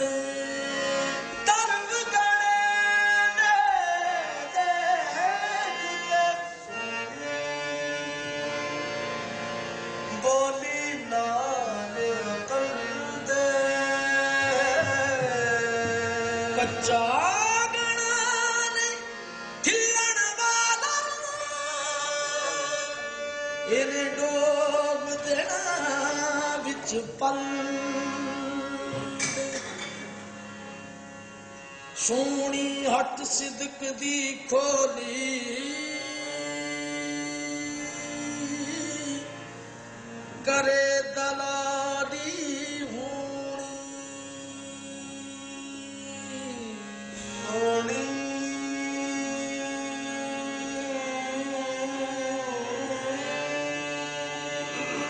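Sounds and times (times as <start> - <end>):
singers with ornamented vocal lines: 0.0 - 55.0
sustained harmonium: 0.0 - 55.0.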